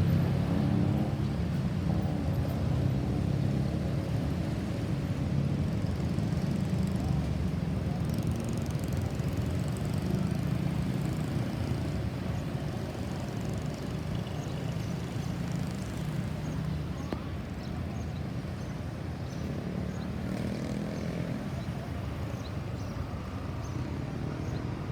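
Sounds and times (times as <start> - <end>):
traffic engine rumble: 0.0 - 24.9.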